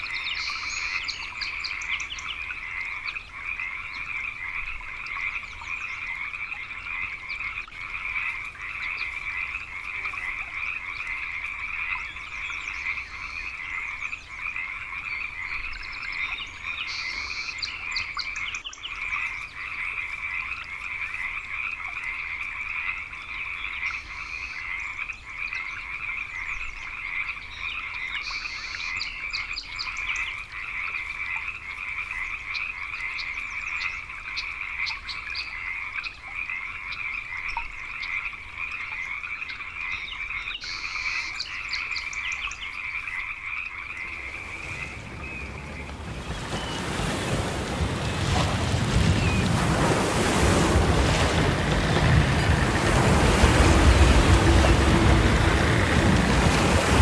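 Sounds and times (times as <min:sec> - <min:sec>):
frog chorus: 0:00.0 - 0:57.0.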